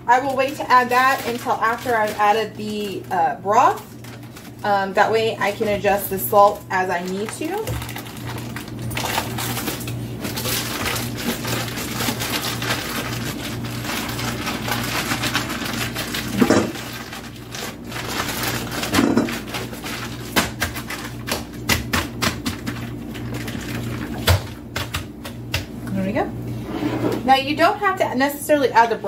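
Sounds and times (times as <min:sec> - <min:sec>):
plastic bag crinkling: 0:00.0 - 0:24.7.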